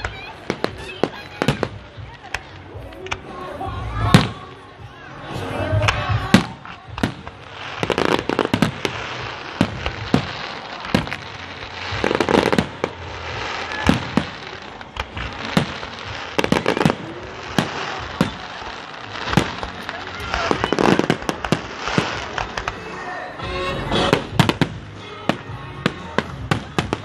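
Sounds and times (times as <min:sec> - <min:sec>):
firework crackling: 0:00.0 - 0:27.0.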